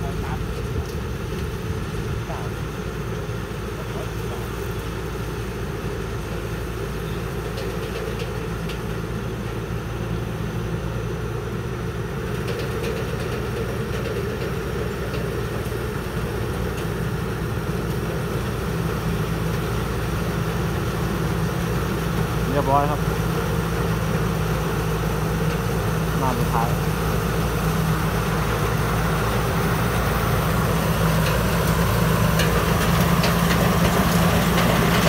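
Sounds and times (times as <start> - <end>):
combine harvester engine and machinery: 0.0 - 35.0.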